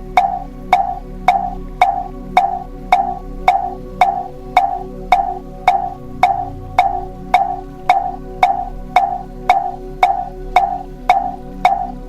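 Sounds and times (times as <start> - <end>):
low drone: 0.0 - 12.0
wooden fish knocking: 0.2 - 12.0.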